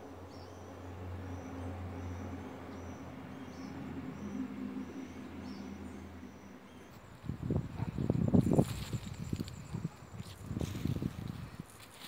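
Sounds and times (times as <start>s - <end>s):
low motor hum: 0.1s - 10.0s.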